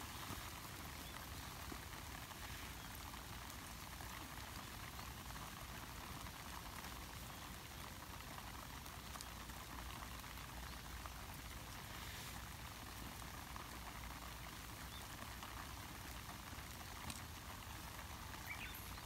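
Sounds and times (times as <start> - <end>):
light rain patter: 0.0 - 19.0.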